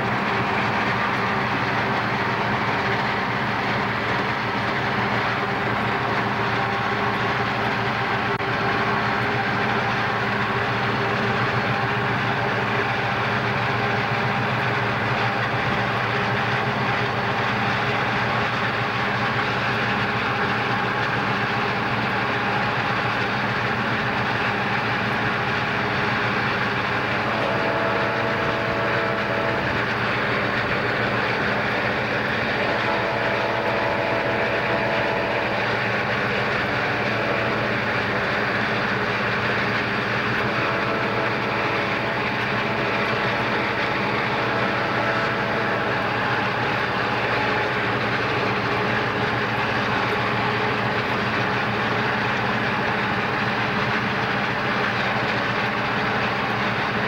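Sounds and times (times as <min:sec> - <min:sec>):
diesel locomotives running: 0:00.0 - 0:57.0.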